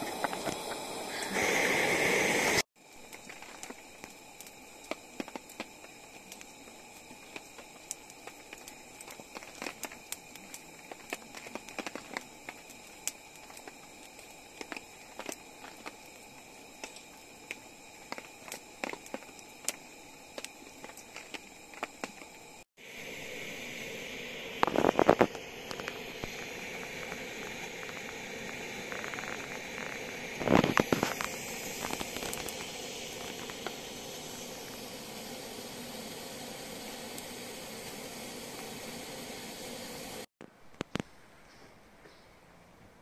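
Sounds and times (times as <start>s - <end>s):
wood fire crackling and popping: 0.0s - 23.7s, 24.3s - 41.1s
camp stove hissing: 0.0s - 40.4s
faint steady hiss: 0.0s - 43.0s.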